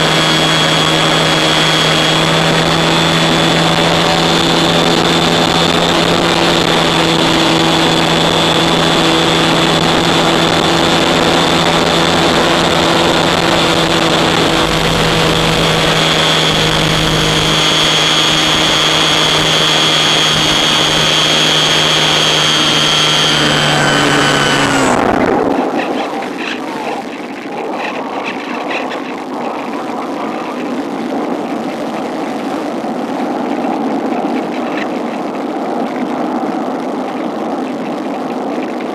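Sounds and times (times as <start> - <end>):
electric motor and propeller whine: 0.0 - 38.9
rush of air past glider: 0.0 - 38.9.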